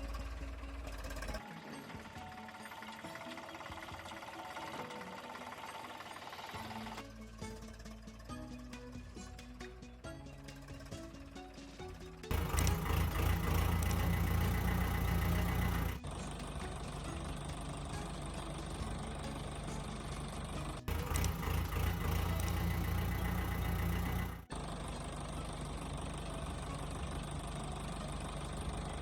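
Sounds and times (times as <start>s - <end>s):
vehicle engine running: 0.0s - 9.5s, 12.0s - 29.0s.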